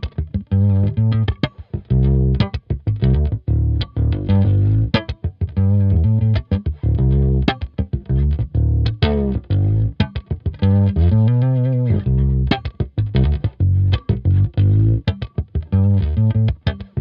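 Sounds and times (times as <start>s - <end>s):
fretless bass guitar plucked: 0.0s - 17.0s.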